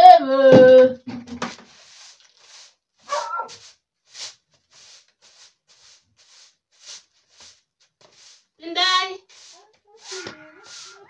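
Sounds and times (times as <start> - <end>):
broom sweeping floor: 1.4 - 11.0.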